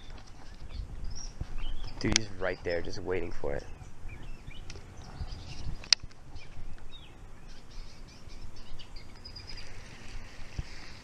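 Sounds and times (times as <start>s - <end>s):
birds chirping: 0.0s - 11.0s
low microphone rumble: 0.0s - 11.0s.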